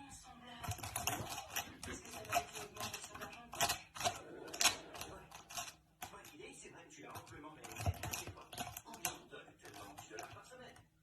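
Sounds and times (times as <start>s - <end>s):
rapid irregular clicking and tapping: 0.6s - 11.0s.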